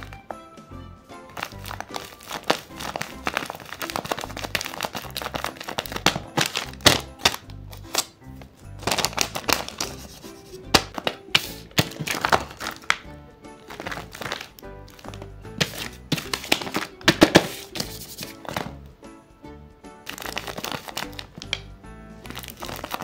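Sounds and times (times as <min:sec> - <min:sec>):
light background music: 0:00.0 - 0:23.0
paper crinkling and crackling: 0:01.3 - 0:08.2, 0:08.8 - 0:13.0, 0:13.6 - 0:18.8, 0:20.1 - 0:23.0.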